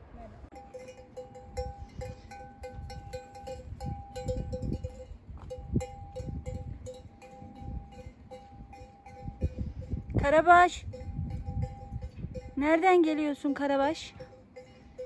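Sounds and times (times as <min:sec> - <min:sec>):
cattle bells clanking: 0:00.5 - 0:15.0.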